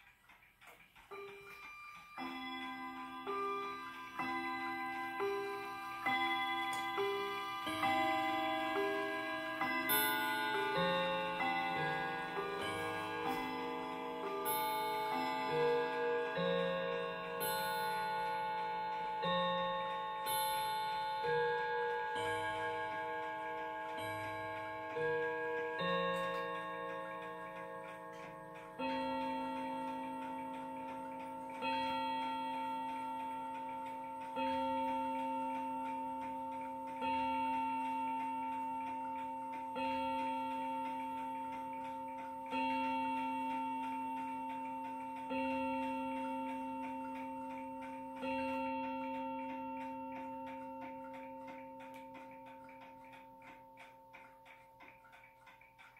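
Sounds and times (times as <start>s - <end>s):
clock ticking: 0.0s - 55.9s
clock gong striking: 1.1s - 54.6s.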